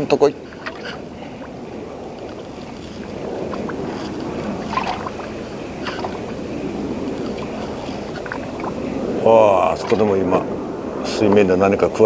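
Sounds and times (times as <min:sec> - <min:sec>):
small waves lapping against hull: 0:00.0 - 0:12.0.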